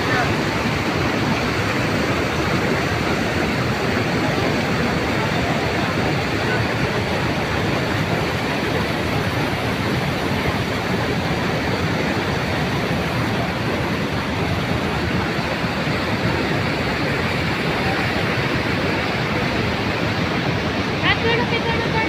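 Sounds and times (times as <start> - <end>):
rush of fast-flowing water: 0.0 - 22.0.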